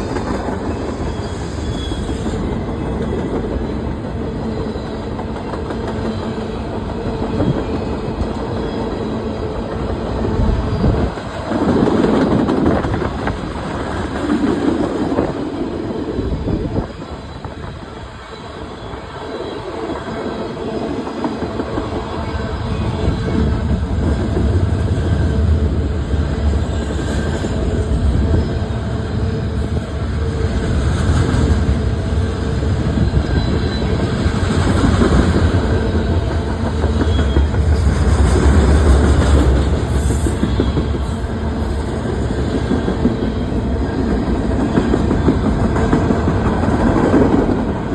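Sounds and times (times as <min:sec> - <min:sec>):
train wheels clattering on rails: 0:00.0 - 0:47.9.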